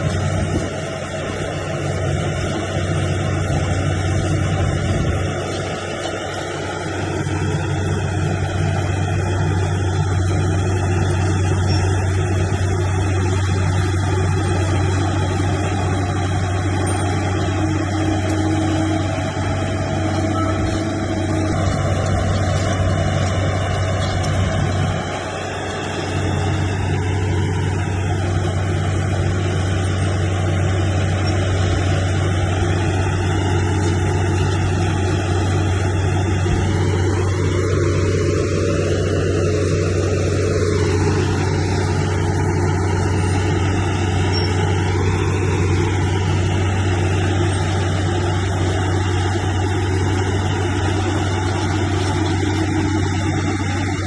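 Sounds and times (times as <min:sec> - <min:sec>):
heavy machine diesel engine: 0:00.0 - 0:54.0.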